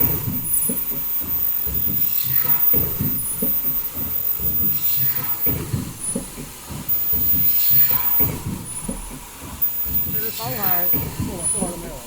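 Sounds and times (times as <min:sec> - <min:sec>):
mechanical knocks: 0:00.0 - 0:12.0
pneumatic hissing: 0:00.0 - 0:12.0
production line machinery running: 0:00.0 - 0:12.0.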